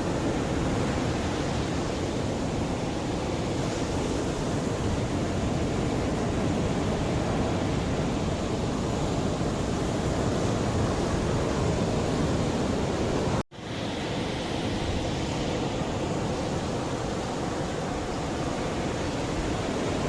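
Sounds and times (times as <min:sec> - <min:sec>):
sea waves washing on shore: 0:00.0 - 0:20.0.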